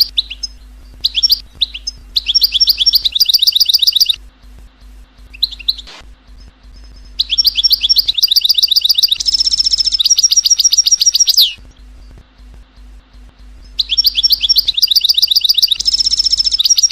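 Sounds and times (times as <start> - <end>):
bird twittering trills: 0.0 - 16.9
faint steady hum: 0.0 - 16.9.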